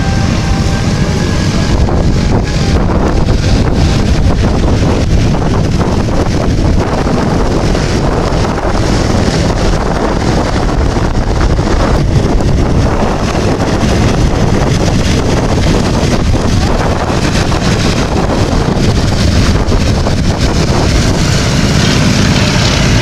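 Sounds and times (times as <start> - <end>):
radial engine aircraft flying past: 0.0 - 23.0
wind noise on microphone: 0.0 - 23.0.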